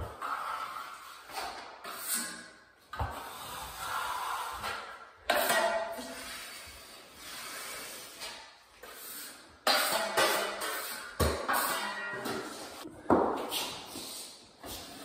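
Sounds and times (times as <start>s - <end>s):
drywall knife scraping compound: 0.0s - 15.0s.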